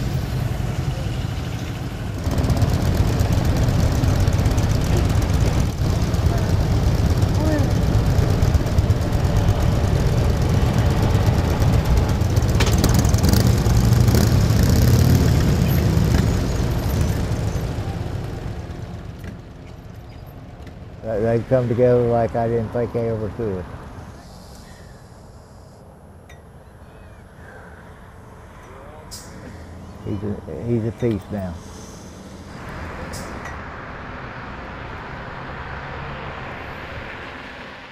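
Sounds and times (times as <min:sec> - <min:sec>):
vehicle engines humming: 0:00.0 - 0:37.9.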